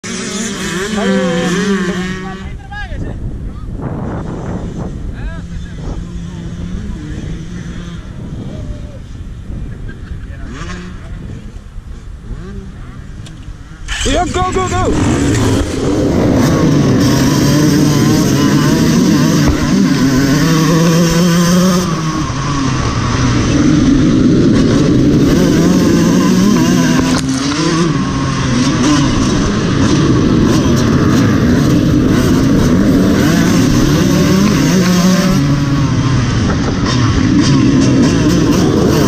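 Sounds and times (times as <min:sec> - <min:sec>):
dirt bike engine revving: 0:00.0 - 0:02.6, 0:03.8 - 0:39.0
off-road motorcycles: 0:00.0 - 0:39.0.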